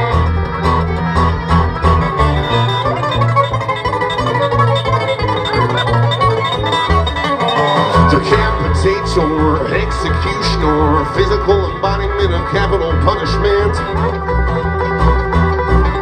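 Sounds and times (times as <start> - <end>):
acoustic guitar: 0.0 - 16.0
fiddle: 0.0 - 16.0
picked banjo: 0.0 - 16.0
walking upright bass: 0.0 - 16.0.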